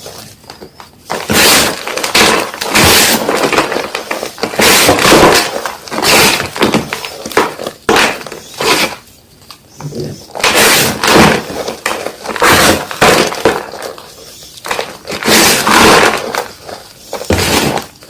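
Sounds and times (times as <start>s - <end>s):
chalk crunching: 1.0s - 9.2s, 9.8s - 18.0s.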